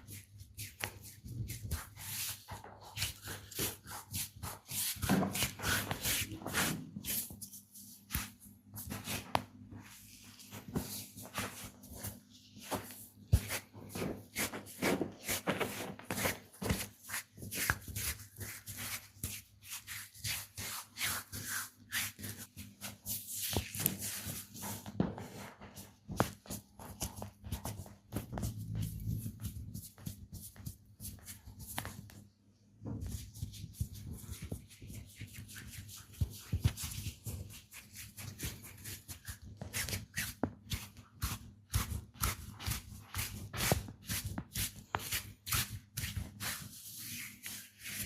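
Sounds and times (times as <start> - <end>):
hands rubbing and slapping skin: 0.0 - 32.3, 33.0 - 48.0.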